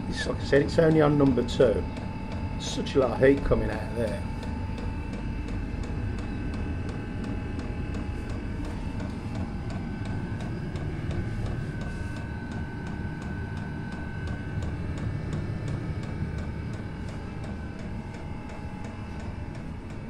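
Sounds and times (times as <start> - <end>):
fan whine: 0.0 - 20.0
fuel pump ticking: 0.0 - 20.0
heater combustion rumble: 0.0 - 20.0.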